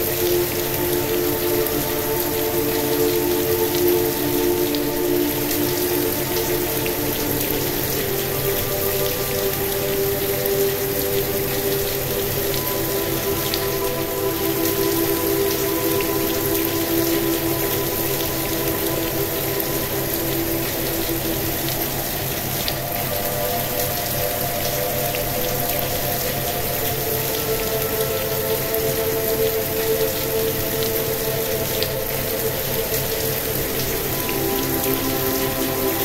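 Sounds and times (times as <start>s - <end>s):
soft relaxation music: 0.0s - 36.0s
steady rain: 0.0s - 36.0s.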